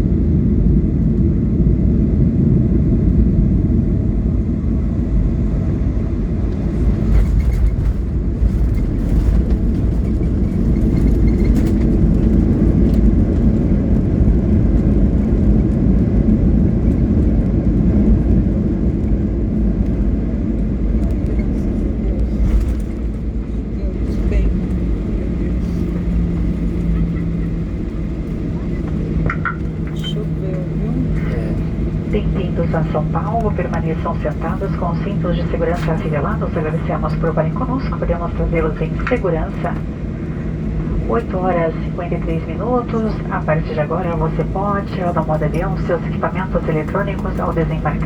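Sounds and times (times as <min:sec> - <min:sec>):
airliner cabin rumble: 0:00.0 - 0:48.0.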